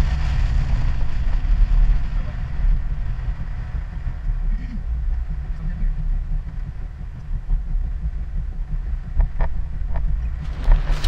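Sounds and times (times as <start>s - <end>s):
road and wind noise rumble: 0.0s - 11.0s.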